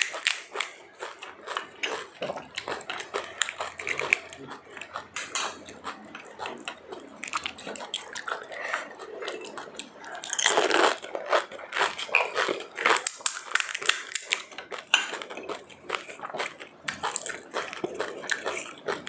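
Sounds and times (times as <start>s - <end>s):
person chewing crunchy food: 0.0s - 19.0s.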